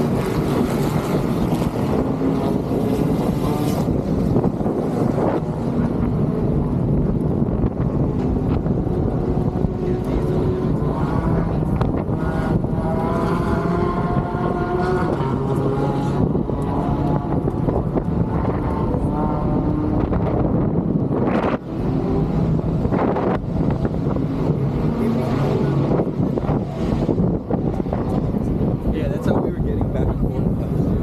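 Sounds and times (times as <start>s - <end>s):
engine drone: 0.0s - 31.0s
wind buffeting microphone: 0.0s - 31.0s.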